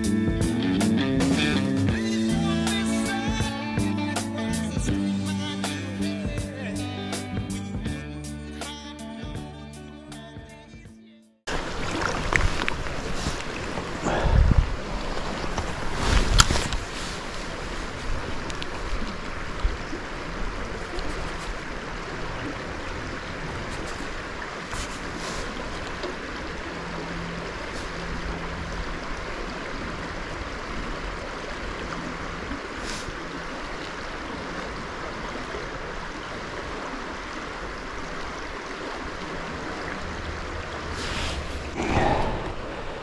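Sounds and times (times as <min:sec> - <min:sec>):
creek water flowing: 0:00.0 - 0:09.3, 0:11.5 - 0:43.0.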